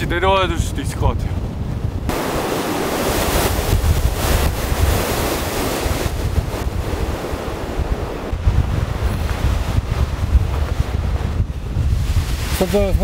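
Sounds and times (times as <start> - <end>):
strong wind through trees: 0.0 - 13.0
wind buffeting microphone: 0.0 - 13.0.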